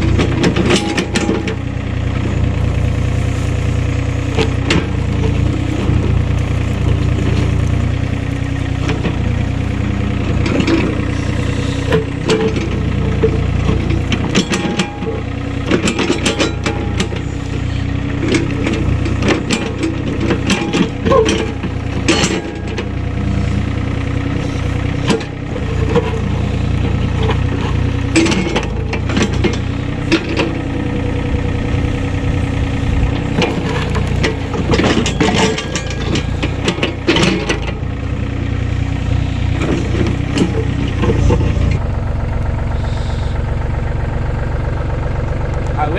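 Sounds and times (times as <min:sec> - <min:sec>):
machine engine humming: 0:00.0 - 0:45.9.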